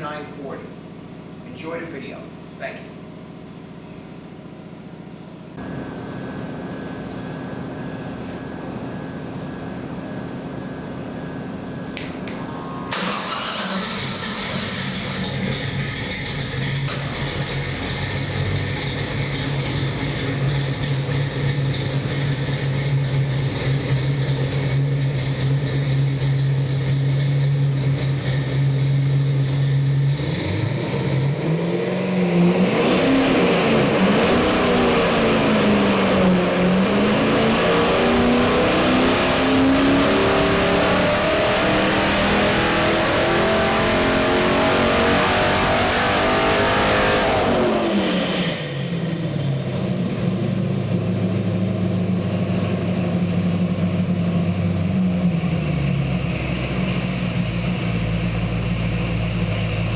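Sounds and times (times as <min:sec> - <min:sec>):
car engine idling and revving: 0:02.3 - 0:59.9.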